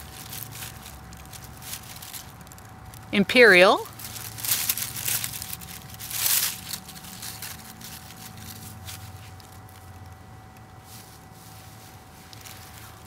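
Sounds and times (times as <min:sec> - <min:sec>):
rustling and scraping handling noise: 0:00.0 - 0:03.0, 0:03.8 - 0:13.0
faint steady hum: 0:00.0 - 0:13.0.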